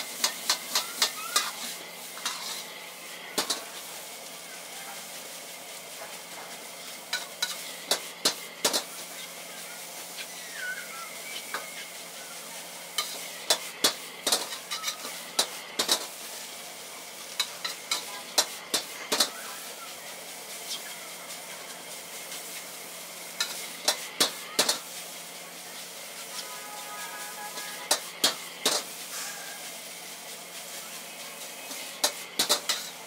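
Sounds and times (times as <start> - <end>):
ladle clanking and scraping a wok: 0.0 - 10.3, 11.3 - 30.7, 31.6 - 33.0
food sizzling in a wok: 0.0 - 33.0.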